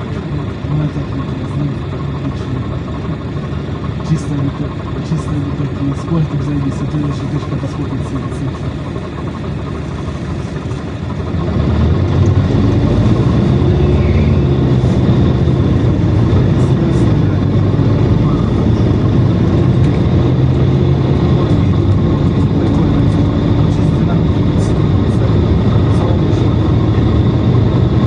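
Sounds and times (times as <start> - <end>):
bus engine and ride noise: 0.0 - 28.0.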